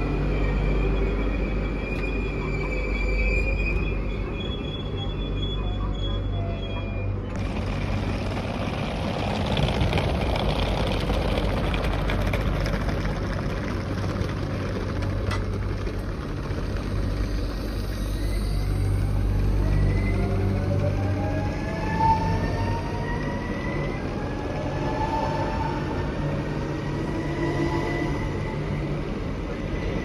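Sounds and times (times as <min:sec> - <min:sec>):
electric train humming: 0:00.0 - 0:30.0
traction motors whining: 0:00.0 - 0:30.0.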